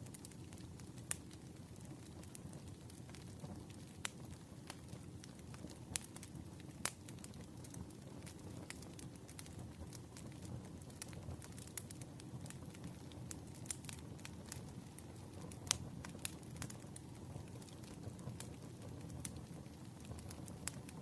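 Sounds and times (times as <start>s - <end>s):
fire crackling and popping: 0.0s - 21.0s
wood fire rumbling: 0.0s - 21.0s.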